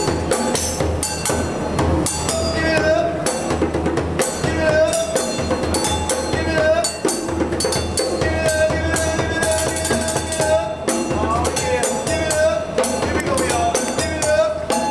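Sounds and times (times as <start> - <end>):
djembe hand drumming: 0.0 - 14.9.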